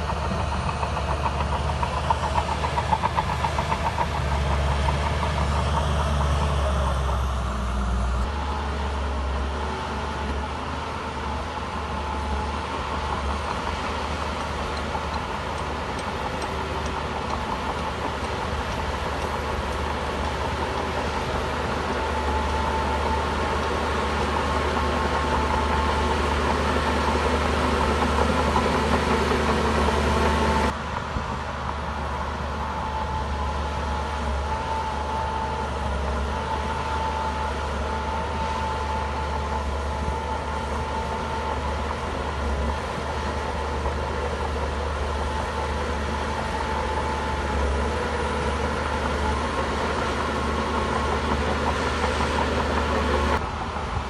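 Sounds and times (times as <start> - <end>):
diesel bulldozer engine running: 0.0 - 54.0.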